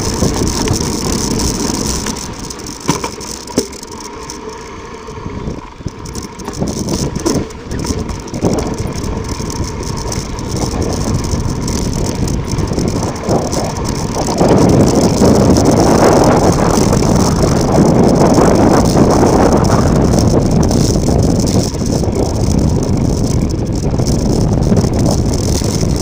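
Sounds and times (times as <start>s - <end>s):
bike rattling: 0.0s - 26.0s
bike tyres rumbling on rough ground: 0.0s - 26.0s.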